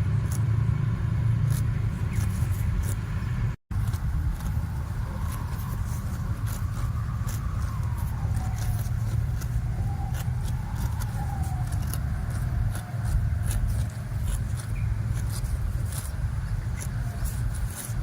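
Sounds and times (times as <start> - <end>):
cattle hooves clicking on road: 0.0 - 18.0
steady low rumble: 0.0 - 18.0.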